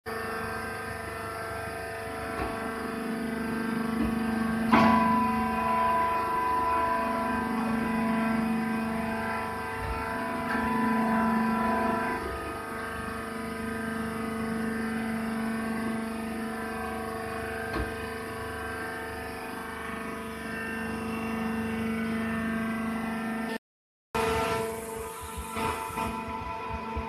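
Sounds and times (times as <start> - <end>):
baler machine hum: 0.1 - 23.5, 24.2 - 27.0.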